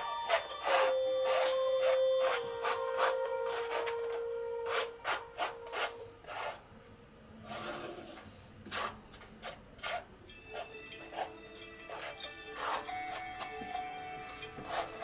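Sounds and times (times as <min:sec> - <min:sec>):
palette knife scraping paint: 0:00.0 - 0:06.6, 0:07.4 - 0:13.5, 0:14.6 - 0:15.0.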